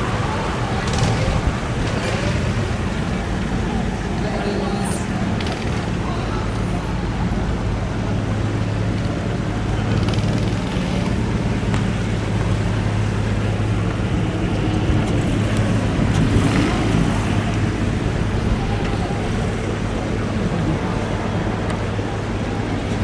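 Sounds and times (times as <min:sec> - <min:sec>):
engine idling: 0:00.0 - 0:23.0
outdoor background noise: 0:00.0 - 0:23.0.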